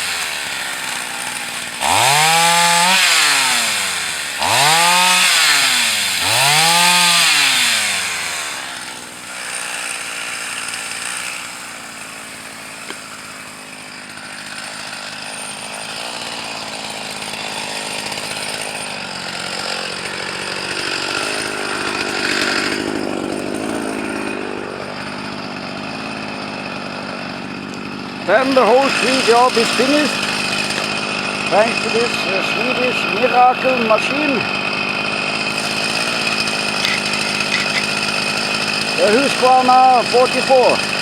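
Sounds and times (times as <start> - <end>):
chainsaw revving and cutting wood: 0.0 - 41.0.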